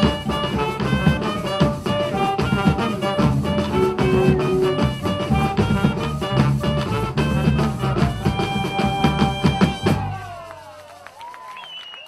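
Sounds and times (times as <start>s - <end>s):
brass and drums music: 0.0s - 10.4s.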